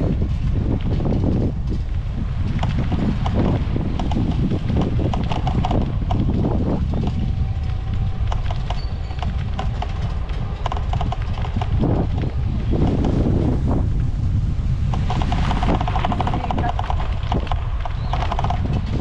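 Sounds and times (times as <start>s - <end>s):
bicycle clicks and rattles: 0.0s - 14.1s, 14.9s - 19.0s
wind buffeting microphone: 0.0s - 19.0s.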